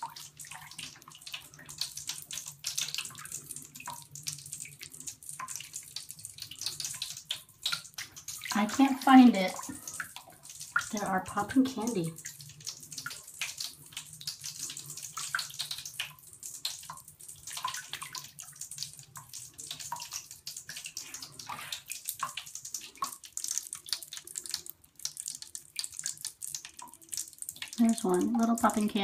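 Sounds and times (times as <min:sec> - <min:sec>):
faint watery fizz: 0:00.0 - 0:29.0.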